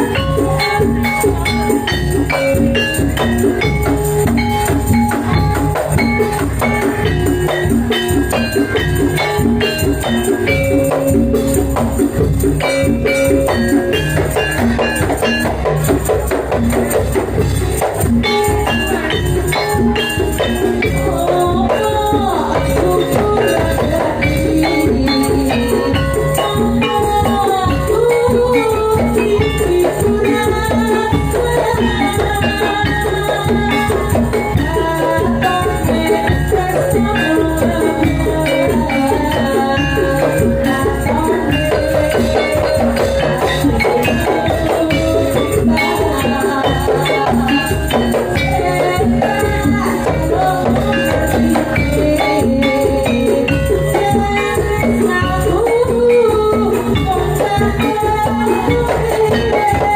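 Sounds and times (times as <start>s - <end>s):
jingling percussion: 0.0s - 59.9s
percussion music with melody: 0.0s - 59.9s.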